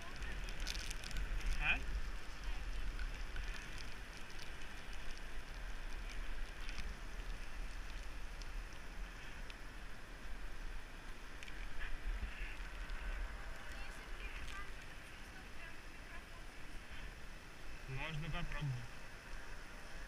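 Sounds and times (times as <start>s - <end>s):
raindrops ticking on camera: 0.0s - 16.2s
tyres hissing on wet road: 0.0s - 20.0s.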